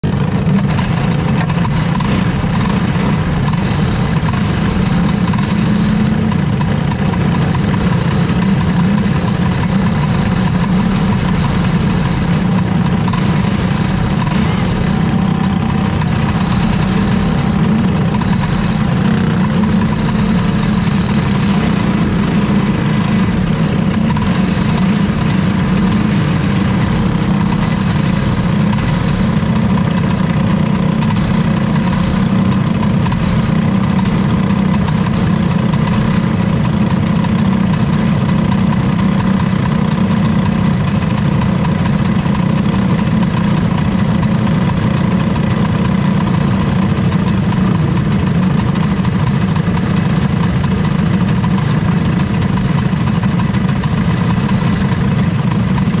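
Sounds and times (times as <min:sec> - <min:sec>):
kart engine idling: 0:00.0 - 0:56.0.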